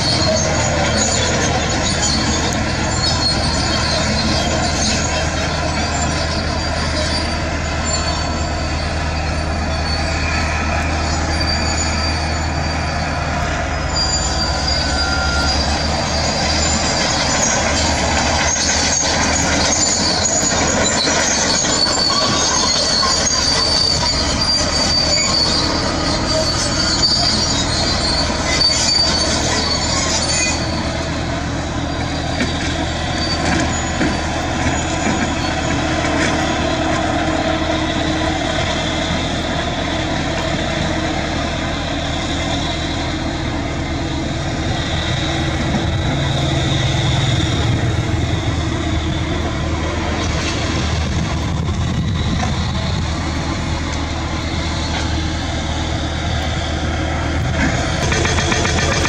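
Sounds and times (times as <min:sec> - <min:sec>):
diesel truck engine running: 0:00.0 - 0:59.0
high-pitched metallic squealing: 0:00.0 - 0:59.0.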